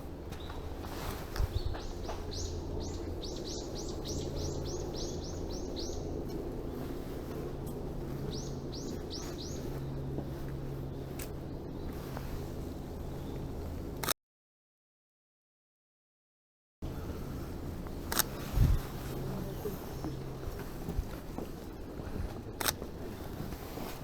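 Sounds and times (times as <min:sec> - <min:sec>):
steady low hum: 0:00.0 - 0:14.1, 0:16.8 - 0:24.0.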